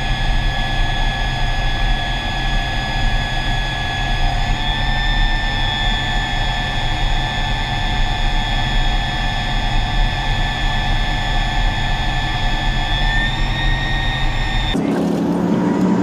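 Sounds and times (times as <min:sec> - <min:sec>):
jet engine rush and whine: 0:00.0 - 0:16.0.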